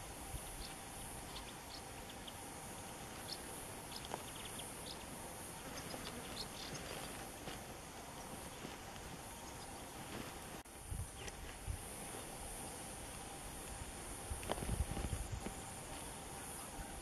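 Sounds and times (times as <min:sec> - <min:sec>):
insect hiss: 0:00.0 - 0:17.0
small birds chirping: 0:00.0 - 0:17.0.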